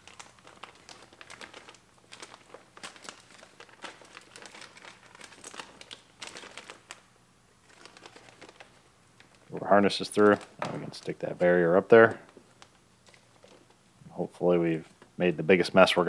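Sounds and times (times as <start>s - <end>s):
plastic sheet crinkling: 0.0s - 13.8s.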